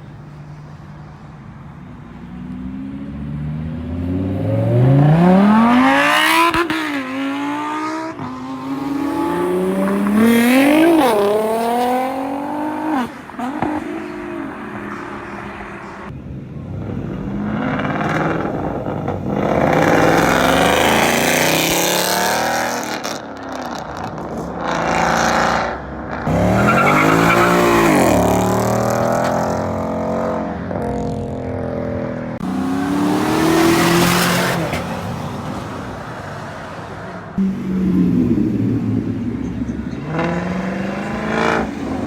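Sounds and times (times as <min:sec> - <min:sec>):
cars revving and accelerating: 0:02.1 - 0:42.0.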